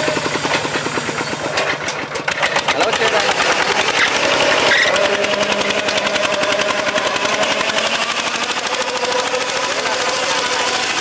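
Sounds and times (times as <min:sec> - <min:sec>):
rotary tiller whine: 0:00.0 - 0:11.0
tractor diesel engine running: 0:00.0 - 0:11.0.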